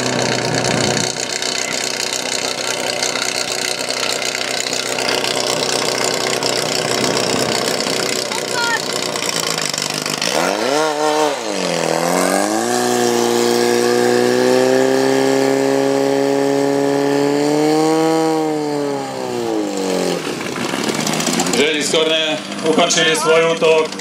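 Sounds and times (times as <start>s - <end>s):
pump engine revving: 0.0s - 24.0s.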